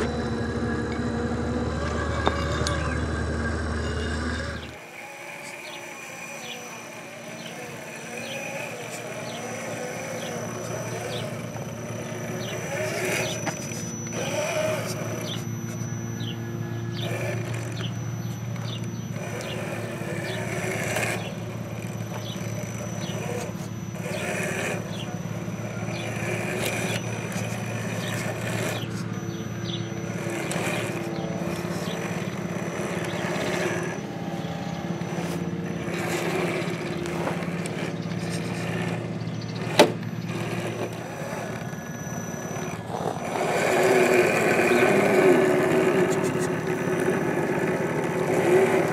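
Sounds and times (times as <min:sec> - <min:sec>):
electric motor whining: 0:00.0 - 0:48.9.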